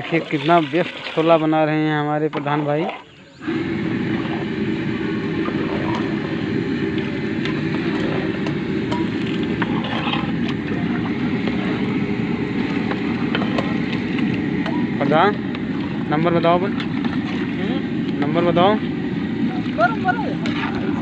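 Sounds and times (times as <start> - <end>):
gas burner roaring: 3.3 - 21.0.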